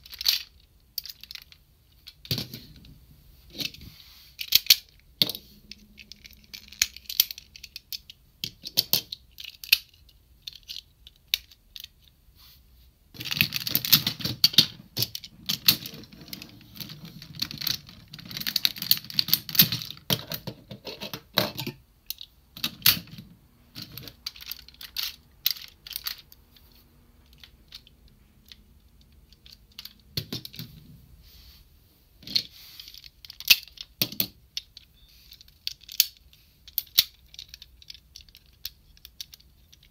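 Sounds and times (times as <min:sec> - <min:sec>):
plastic toy parts clicking and rattling: 0:00.0 - 0:12.2, 0:13.2 - 0:30.8, 0:32.2 - 0:39.9.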